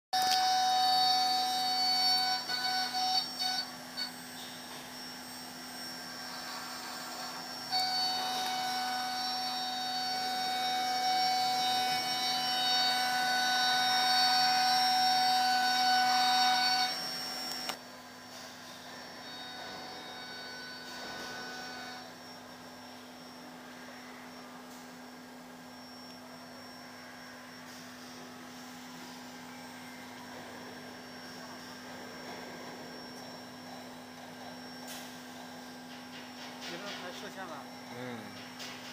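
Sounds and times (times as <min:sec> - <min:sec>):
engraving machine spindle whine: 0:00.2 - 0:38.9.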